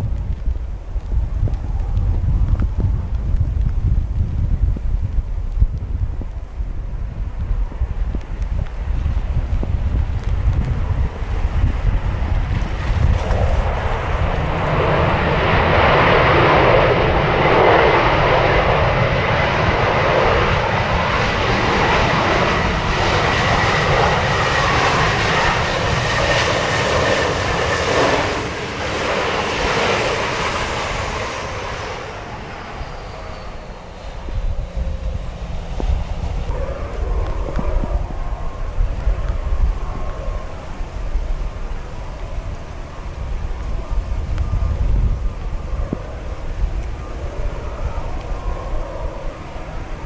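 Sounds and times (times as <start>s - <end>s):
jet airliner engine roar: 0.0s - 50.0s
wind buffeting microphone: 0.0s - 50.0s.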